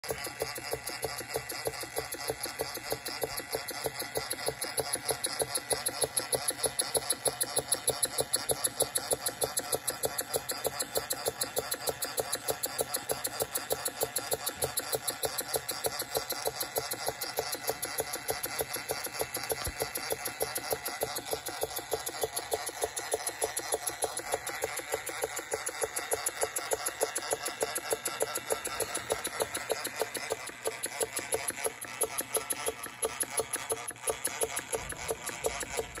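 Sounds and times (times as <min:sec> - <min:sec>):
model beam engine running: 0:00.0 - 0:36.0.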